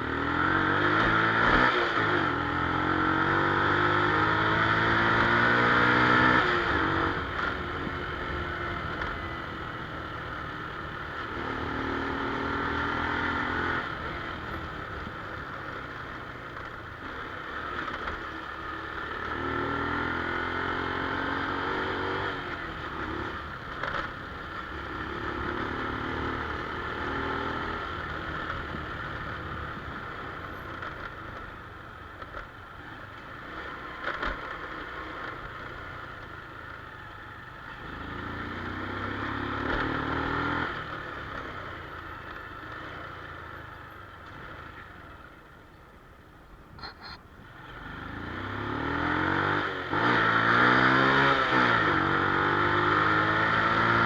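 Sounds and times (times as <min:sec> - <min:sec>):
motorcycle engine revving: 0:00.0 - 0:31.5, 0:37.4 - 0:45.3, 0:46.8 - 0:54.0.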